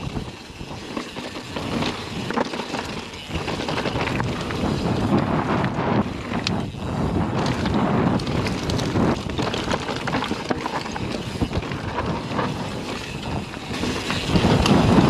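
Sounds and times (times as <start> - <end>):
bike rattling over bumps: 0.0 - 15.0
bike tyres on dirt and gravel: 0.0 - 15.0
wind buffeting microphone: 0.0 - 15.0.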